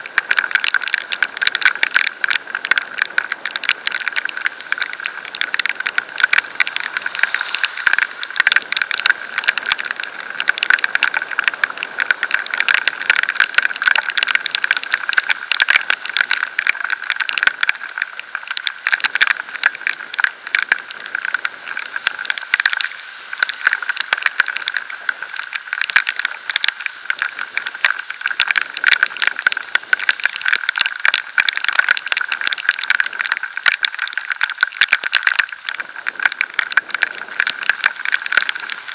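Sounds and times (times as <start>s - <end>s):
rain pattering on microphone: 0.0s - 38.9s.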